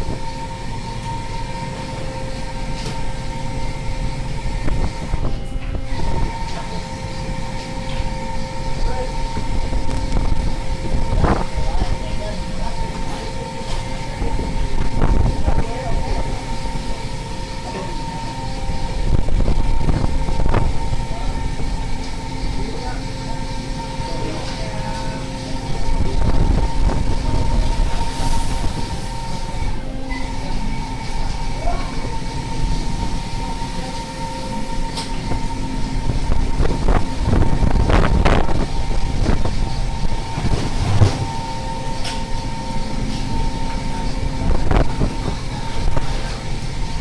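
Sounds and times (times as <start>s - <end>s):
boat machinery droning: 0.0s - 47.0s.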